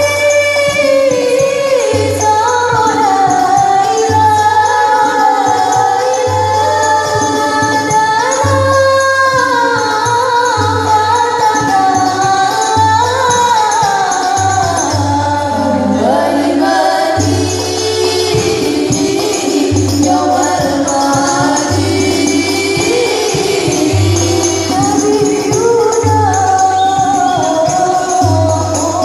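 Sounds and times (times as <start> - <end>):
voices singing: 0.0 - 29.0.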